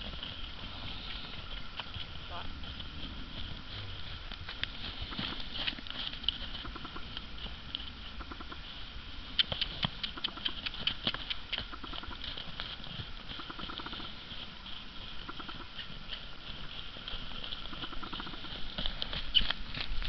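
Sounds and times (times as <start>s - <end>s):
horse hoofbeats on snow: 0.0s - 20.0s.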